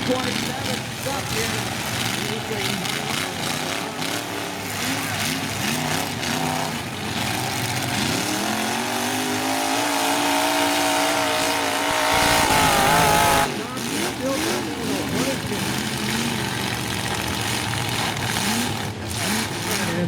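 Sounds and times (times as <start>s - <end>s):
pickup truck engines revving: 0.0s - 20.0s.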